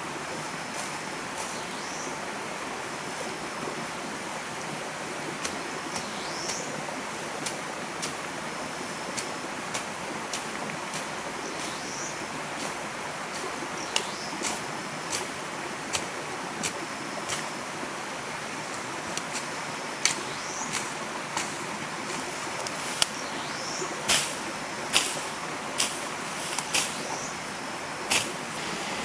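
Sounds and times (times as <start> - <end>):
river flowing: 0.0 - 29.0.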